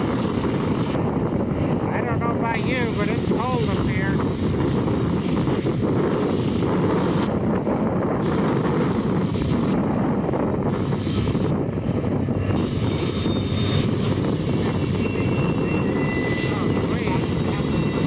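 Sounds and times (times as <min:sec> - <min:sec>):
locomotive engine rumble: 0:00.0 - 0:18.0.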